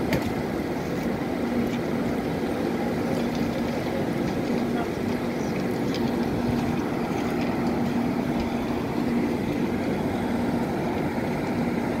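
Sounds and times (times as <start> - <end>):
train mechanical hum: 0.0 - 12.0.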